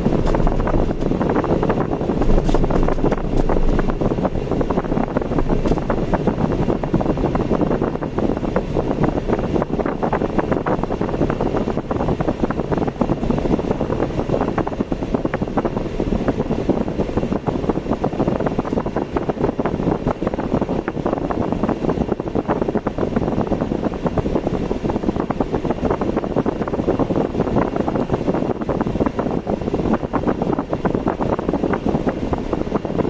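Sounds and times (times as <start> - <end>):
car driving on road: 0.0 - 33.0.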